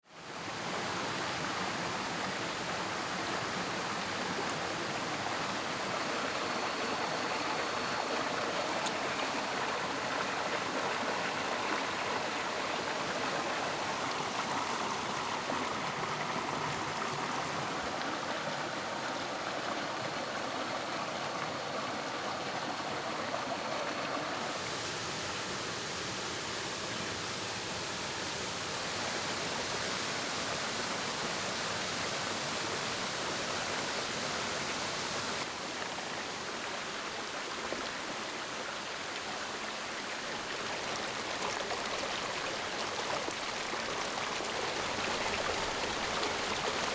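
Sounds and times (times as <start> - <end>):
mountain stream rushing over stones: 0.1 - 46.9.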